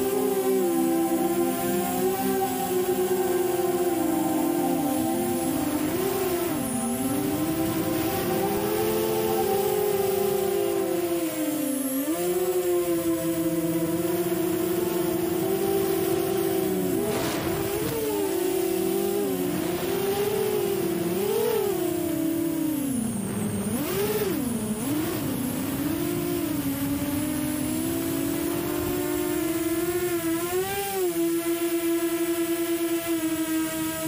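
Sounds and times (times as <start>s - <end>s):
drone propellers whining: 0.0s - 34.0s.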